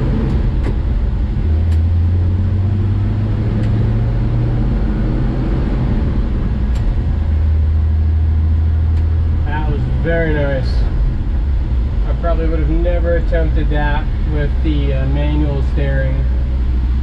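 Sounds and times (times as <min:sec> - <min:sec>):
car engine: 0:00.0 - 0:17.0
road noise: 0:00.0 - 0:17.0.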